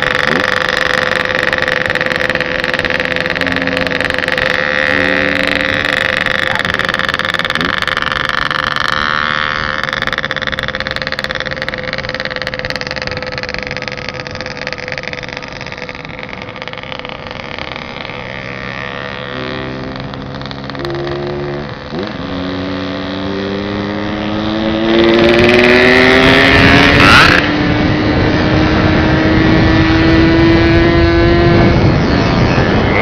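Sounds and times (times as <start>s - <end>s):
motorcycle engine running: 0.0s - 33.0s
road noise: 0.0s - 33.0s.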